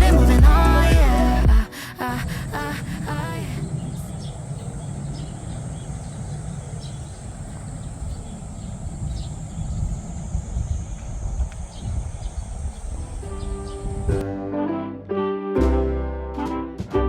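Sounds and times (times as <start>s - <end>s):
steady high-pitched hiss: 0.0s - 14.2s.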